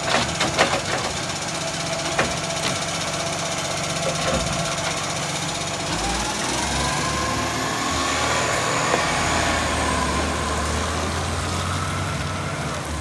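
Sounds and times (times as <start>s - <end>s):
garbage truck diesel engine accelerating: 0.0s - 13.0s.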